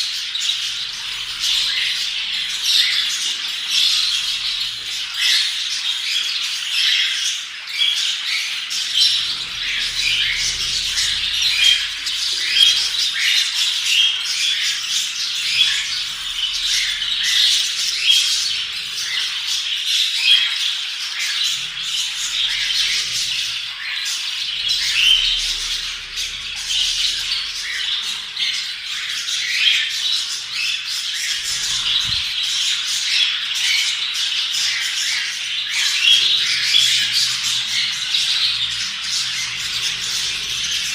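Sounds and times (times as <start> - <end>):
budgerigars chattering and squawking: 0.0 - 40.9.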